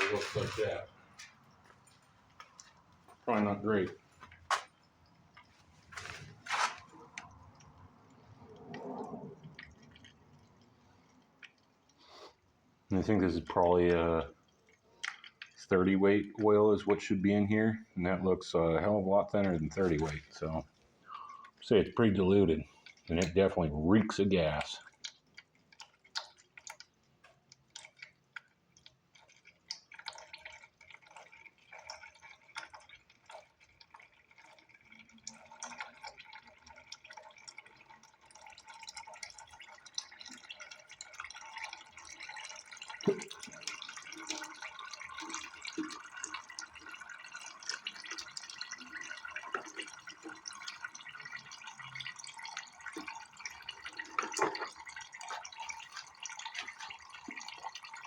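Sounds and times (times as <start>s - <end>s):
oil dripping into a pan: 0.0s - 58.0s
oil trickling: 0.0s - 58.0s.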